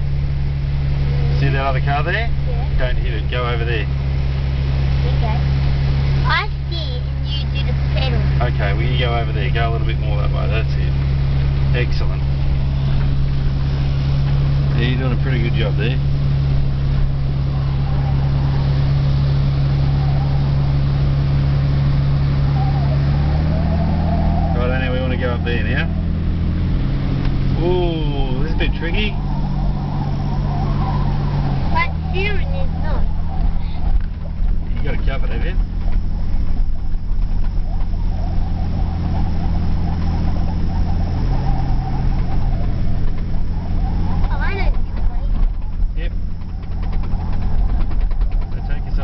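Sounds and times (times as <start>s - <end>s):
car engine droning inside cabin: 0.0s - 49.0s.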